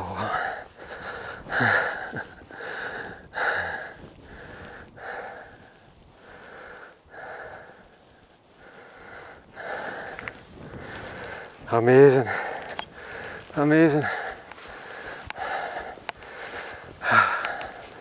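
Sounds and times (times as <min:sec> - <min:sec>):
person breathing heavily: 0:00.0 - 0:18.0.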